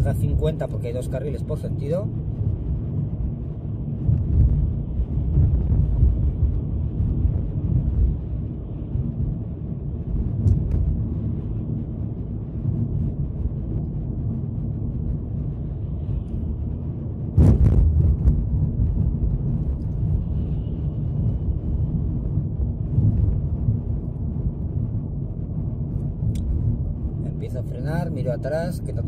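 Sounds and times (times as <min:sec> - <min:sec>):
car road and wind rumble: 0:00.0 - 0:29.0.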